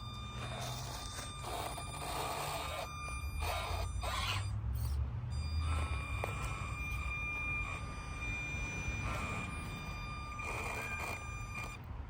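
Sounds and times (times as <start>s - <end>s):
electric motor whining: 0.0s - 11.9s.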